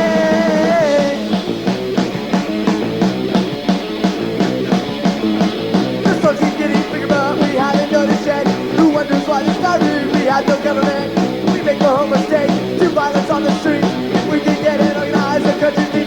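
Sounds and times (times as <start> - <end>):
full band music: 0.0 - 16.0
quick steady drumbeat: 0.0 - 16.0.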